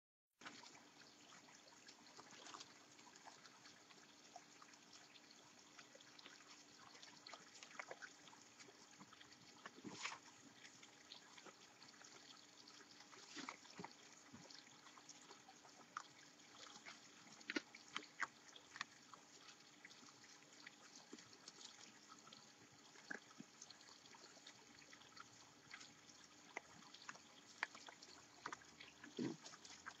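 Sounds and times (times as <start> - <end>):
raccoons eating: 0.7 - 30.0.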